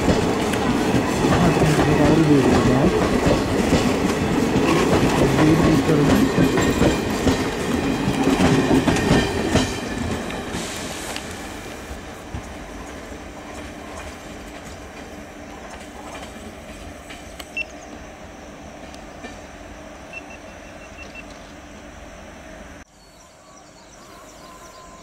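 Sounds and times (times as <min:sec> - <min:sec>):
train coaches rumbling on rails: 0:00.0 - 0:22.8.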